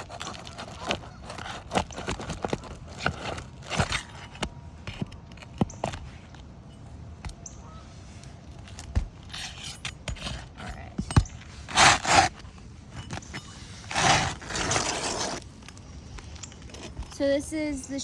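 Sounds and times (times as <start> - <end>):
roof shingles scraping: 0.0 - 6.3, 8.4 - 10.7, 11.3 - 17.2.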